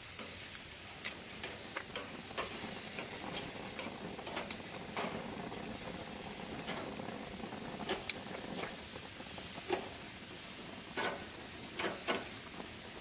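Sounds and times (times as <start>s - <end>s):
food sizzling on a grill: 0.0s - 13.0s
utensils tapping a grill: 0.1s - 8.8s, 9.6s - 10.0s, 10.9s - 12.4s.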